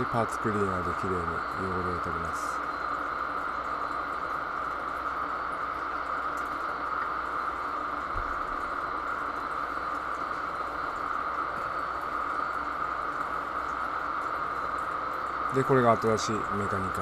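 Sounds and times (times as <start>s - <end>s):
ship machinery drone: 0.0s - 17.0s.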